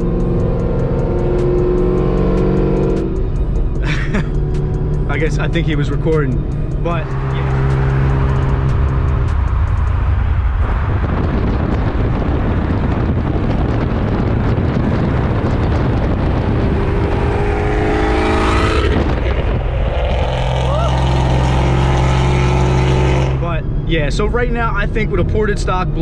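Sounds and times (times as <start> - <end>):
loud car engine revving: 0.0 - 23.8.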